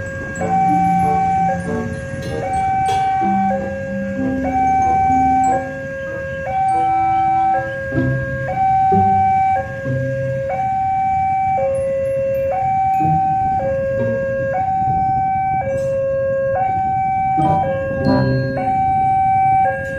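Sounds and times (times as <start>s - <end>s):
two-tone warning alarm: 0.0s - 19.9s.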